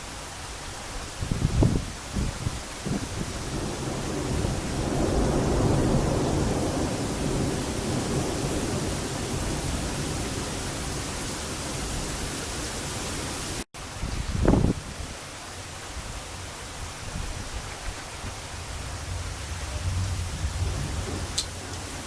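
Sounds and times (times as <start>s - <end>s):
heavy rain hissing: 0.0s - 22.0s
low thunder rumble: 1.2s - 15.1s, 18.2s - 22.0s.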